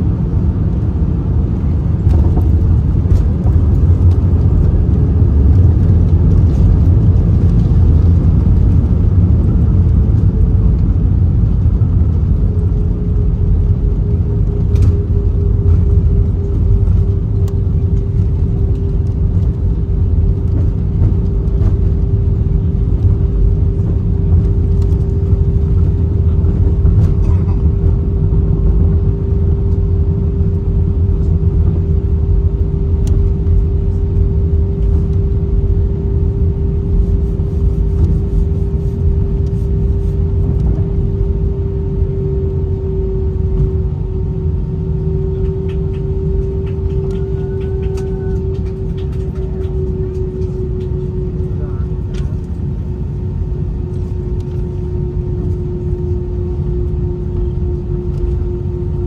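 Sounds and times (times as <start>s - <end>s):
airplane cabin rumble: 0.0s - 59.0s
steady hum: 0.0s - 59.0s.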